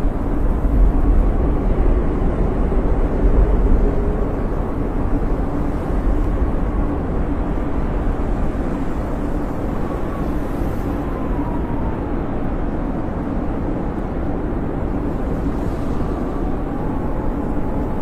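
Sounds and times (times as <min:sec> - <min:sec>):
blizzard wind roaring: 0:00.0 - 0:18.0
faint wind whistle: 0:00.0 - 0:18.0.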